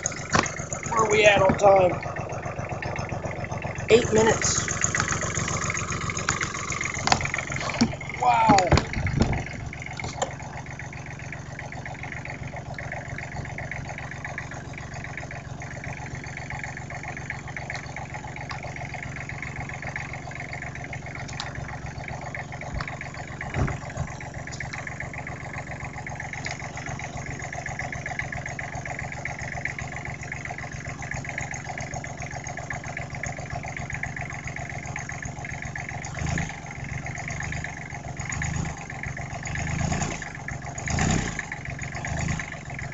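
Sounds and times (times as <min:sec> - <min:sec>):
diesel engine idling: 0:00.0 - 0:42.9
engine knock: 0:00.0 - 0:42.9.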